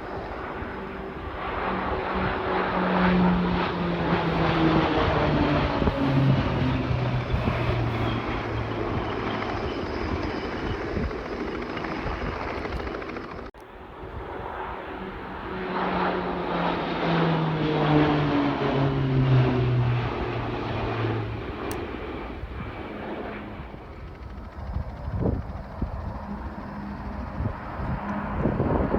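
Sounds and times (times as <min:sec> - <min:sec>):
aircraft engine drone passing: 0:00.0 - 0:28.9.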